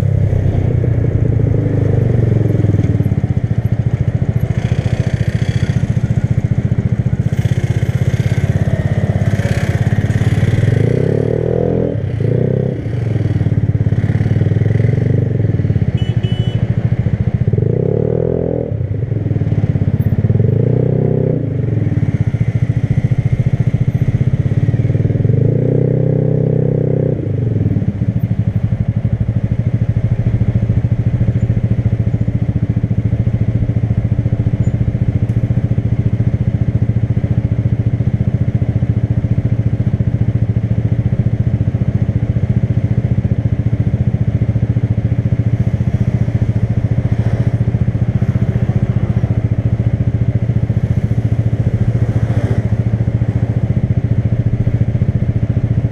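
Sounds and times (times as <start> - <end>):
motorcycle engine: 0.0 - 55.9.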